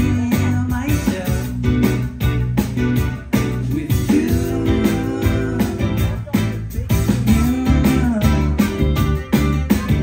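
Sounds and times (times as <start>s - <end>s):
live band music: 0.0s - 10.0s.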